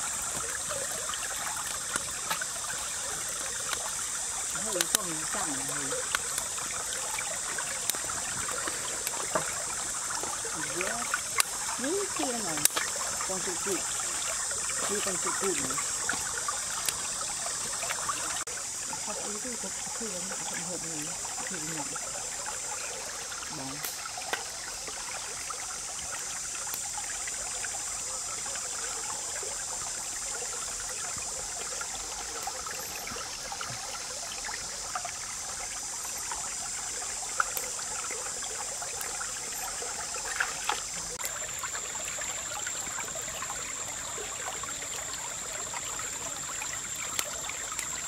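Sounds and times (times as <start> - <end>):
steady high hiss: 0.0 - 48.0
stream flowing and trickling: 0.0 - 48.0.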